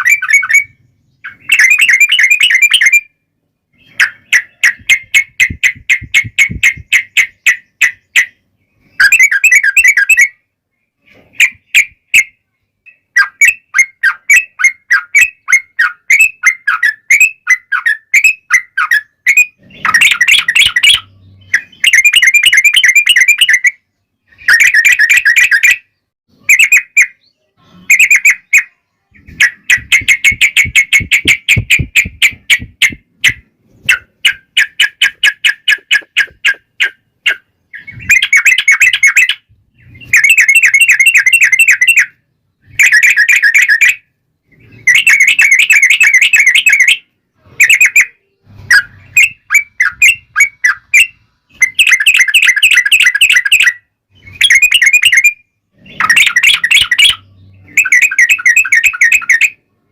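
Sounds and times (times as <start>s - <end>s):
bulbul song chattering: 0.0s - 59.7s.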